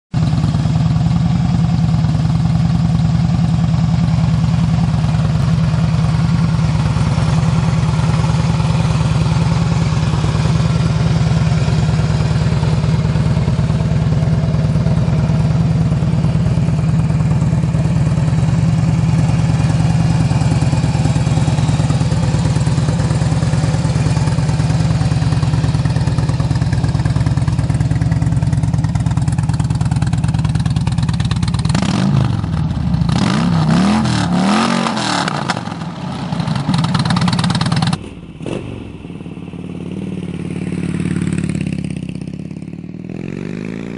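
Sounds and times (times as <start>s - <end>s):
motorcycle engine idling: 0.2s - 34.1s, 35.2s - 43.9s.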